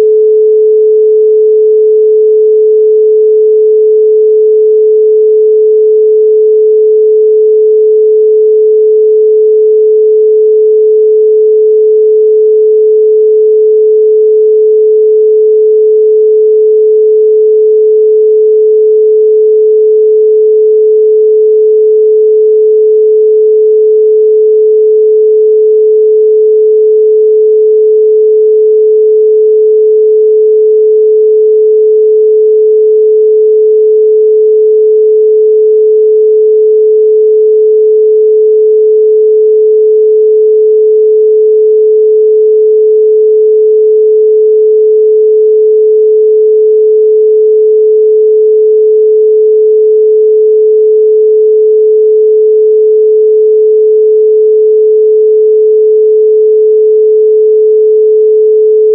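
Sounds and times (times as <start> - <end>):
pure sine tone: 0.0 - 58.9.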